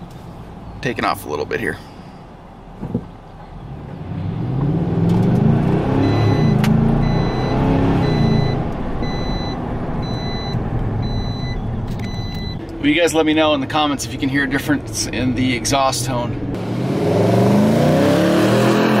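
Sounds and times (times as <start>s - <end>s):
truck engine accelerating: 3.4s - 19.0s.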